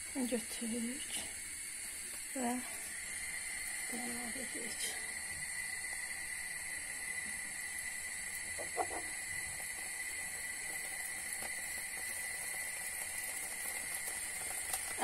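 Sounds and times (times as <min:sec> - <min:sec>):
hot frying pan hissing: 0:00.0 - 0:15.0.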